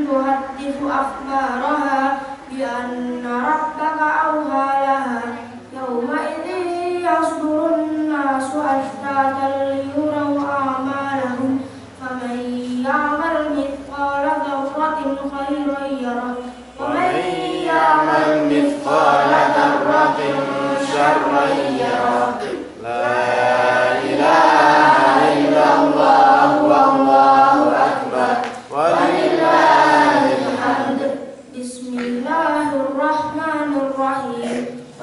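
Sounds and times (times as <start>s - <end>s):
boy chanting into microphone: 0.0s - 35.0s.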